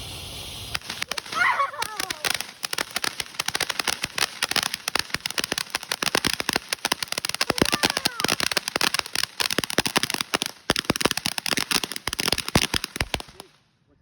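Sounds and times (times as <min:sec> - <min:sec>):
firework pops and crackles: 0:00.2 - 0:13.6.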